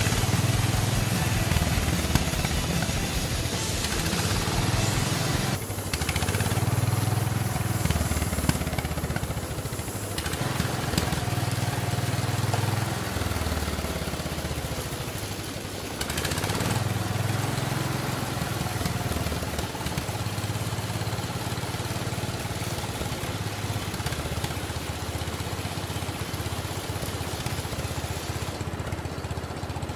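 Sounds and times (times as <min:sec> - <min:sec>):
motor running with low drone: 0:00.0 - 0:29.9.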